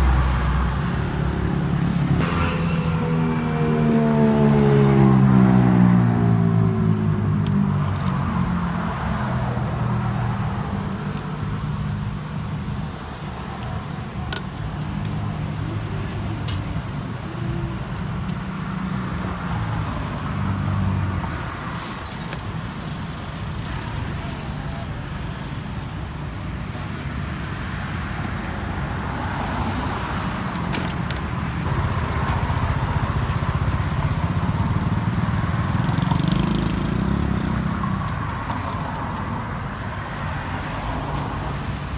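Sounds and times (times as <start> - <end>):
car engines passing: 0.0 - 41.9.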